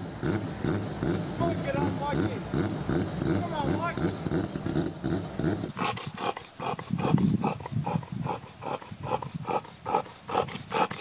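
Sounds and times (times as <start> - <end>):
dog panting: 1.0 - 11.0.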